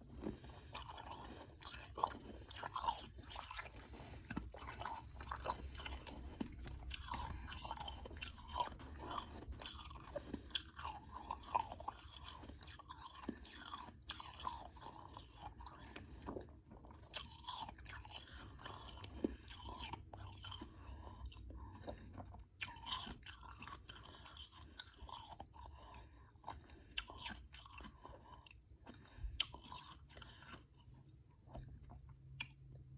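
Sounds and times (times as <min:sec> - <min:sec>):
chewing crunchy ice: 0:00.0 - 0:32.9.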